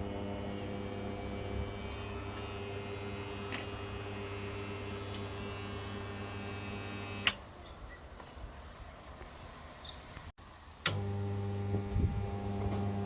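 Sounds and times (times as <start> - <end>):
electrical mains hum: 0.0 - 7.5, 8.9 - 13.0.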